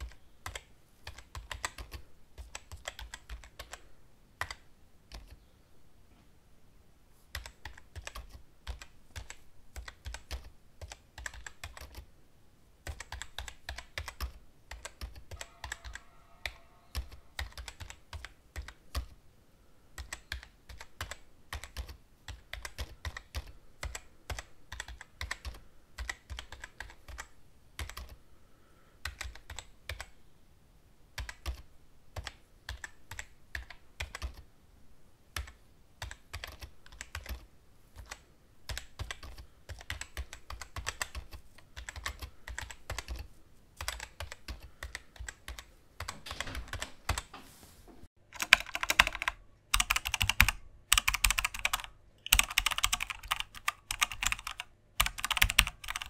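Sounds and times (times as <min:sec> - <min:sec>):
computer keyboard typing: 0:00.0 - 0:05.4, 0:07.3 - 0:12.1, 0:12.8 - 0:19.2, 0:20.0 - 0:28.2, 0:29.0 - 0:30.2, 0:31.1 - 0:34.5, 0:35.3 - 0:47.3, 0:48.3 - 0:56.0.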